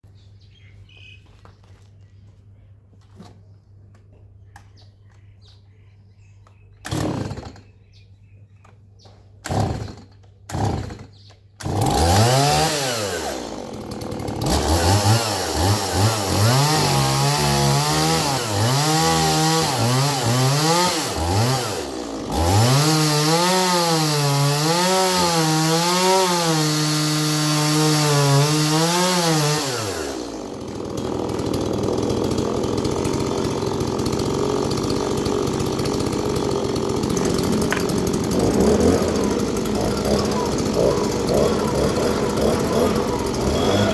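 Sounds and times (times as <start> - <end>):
chainsaw pull-start: 6.8 - 7.8, 9.4 - 43.9
chainsaw revving: 6.8 - 7.8, 9.4 - 43.9.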